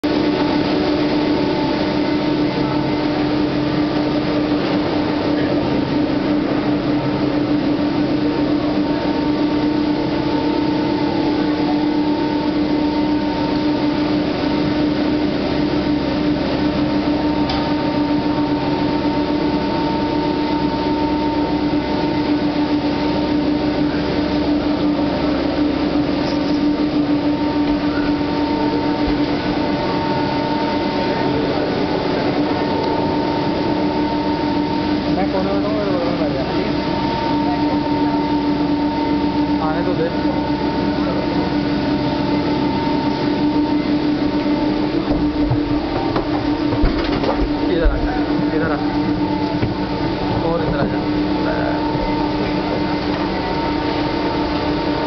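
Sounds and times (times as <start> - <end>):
high machinery whine: 0.0 - 55.0
machinery low hum: 0.0 - 55.0
mechanical rumble: 0.0 - 55.0.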